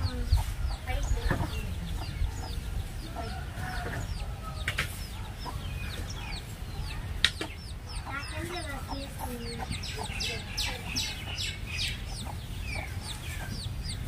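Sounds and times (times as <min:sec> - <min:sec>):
chicks peeping: 0:00.0 - 0:14.0
hen clucking: 0:00.0 - 0:14.0
steady low rumble: 0:00.0 - 0:14.0.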